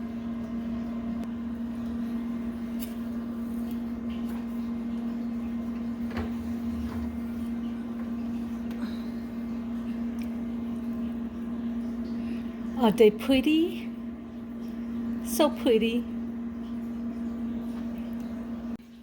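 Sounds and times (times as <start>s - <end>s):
oven electric hum: 0.0s - 19.0s.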